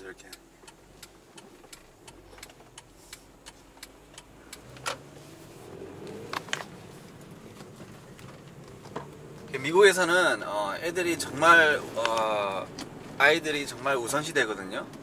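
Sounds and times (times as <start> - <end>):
car engine idling and pulling away: 0.0 - 15.0
light steady ticking: 0.0 - 15.0.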